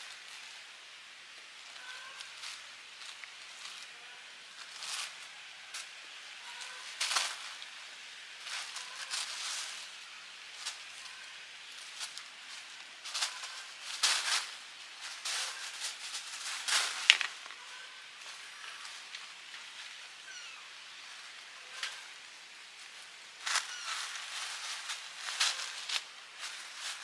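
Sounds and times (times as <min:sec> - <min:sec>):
cats scuffling on concrete: 0:01.5 - 0:07.8, 0:08.4 - 0:22.2, 0:22.8 - 0:27.0.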